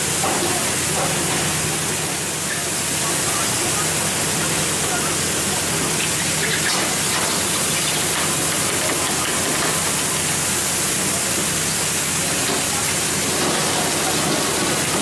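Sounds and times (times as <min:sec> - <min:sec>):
boat machinery hum: 0:00.0 - 0:15.0
water jets spraying onto sea: 0:00.0 - 0:15.0.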